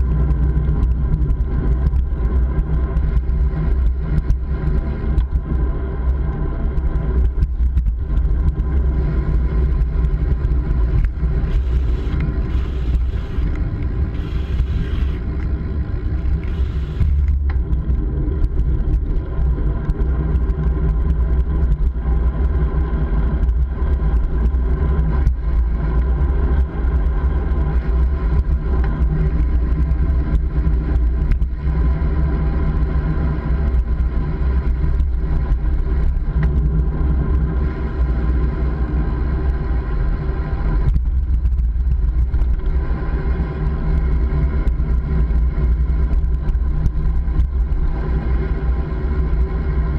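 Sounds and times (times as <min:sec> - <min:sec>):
bike road noise rumble: 0:00.0 - 0:49.9.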